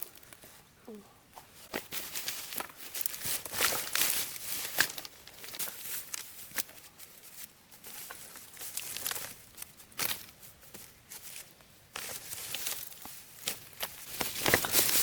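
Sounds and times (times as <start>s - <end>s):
rustling and crinkling handling: 1.3s - 15.0s.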